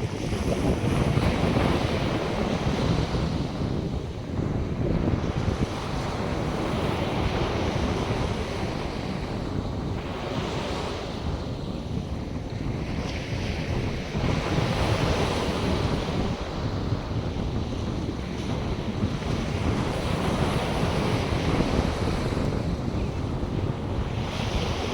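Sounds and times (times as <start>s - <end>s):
waves breaking on a beach: 0.0s - 24.9s
wind buffeting microphone: 0.0s - 24.9s.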